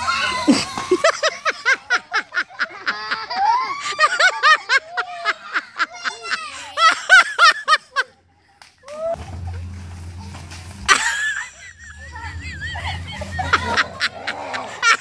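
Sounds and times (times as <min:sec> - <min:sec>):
children laughing and squealing: 0:00.0 - 0:15.0.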